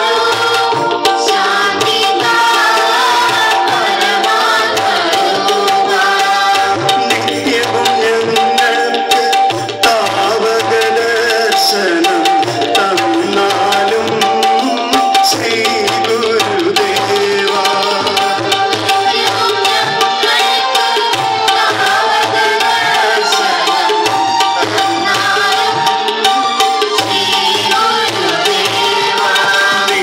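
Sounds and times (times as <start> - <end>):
group singing: 0.0 - 30.0
harmonium note: 0.0 - 30.0
tabla playing rhythm: 0.0 - 30.0.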